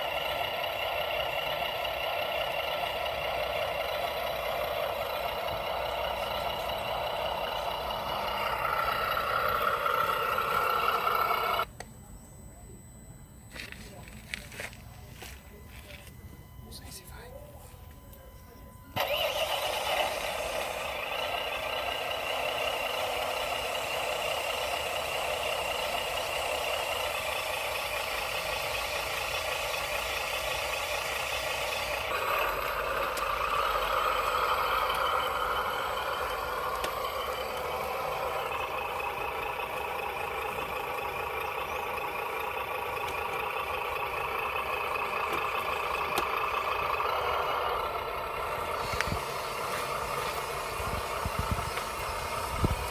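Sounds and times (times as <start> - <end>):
diesel engine through small speaker: 0.0 - 52.9.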